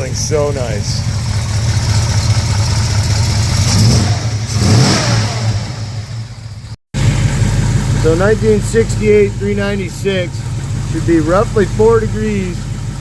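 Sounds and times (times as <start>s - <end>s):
car engine lopey idle: 0.0s - 4.8s, 5.4s - 13.0s.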